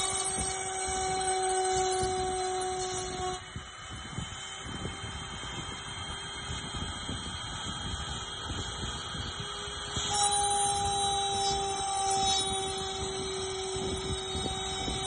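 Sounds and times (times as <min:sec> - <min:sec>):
crackle of wood cutting: 0:00.0 - 0:15.0
lower whine: 0:00.0 - 0:15.0
router spindle high whine: 0:00.0 - 0:15.0.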